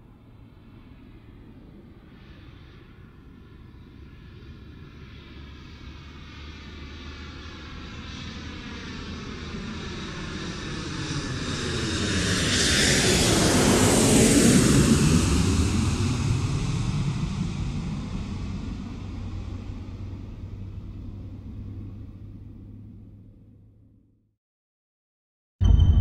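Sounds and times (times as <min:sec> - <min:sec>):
aircraft passing overhead: 0:00.0 - 0:23.6.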